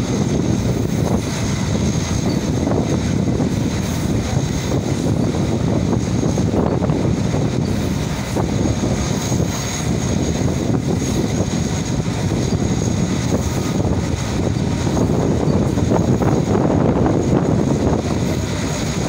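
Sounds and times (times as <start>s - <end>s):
locomotive engine drone: 0.0s - 19.0s
train wheels rolling on rails: 0.0s - 19.0s.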